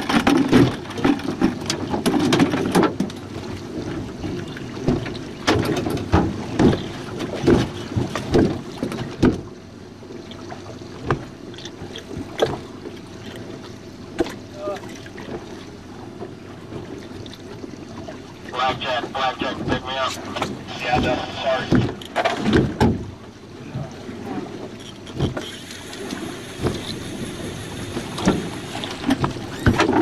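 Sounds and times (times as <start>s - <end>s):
water slapping against boat hull: 0.0s - 30.0s.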